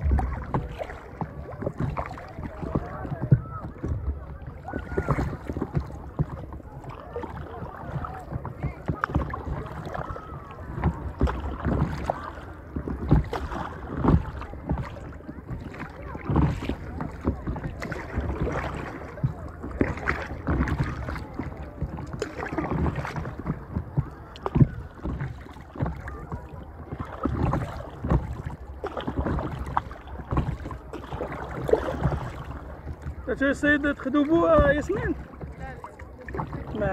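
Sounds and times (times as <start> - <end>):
splashy knocks: 0.0 - 36.9
waves lapping against a board: 0.0 - 36.9.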